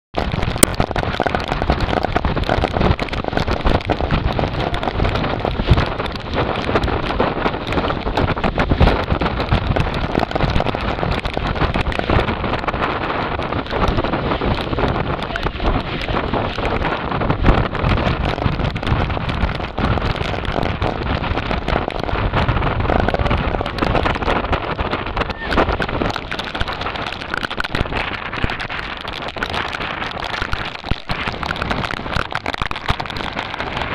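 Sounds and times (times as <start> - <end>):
heavy rain: 0.2 - 33.9
rough sea water: 0.2 - 33.9.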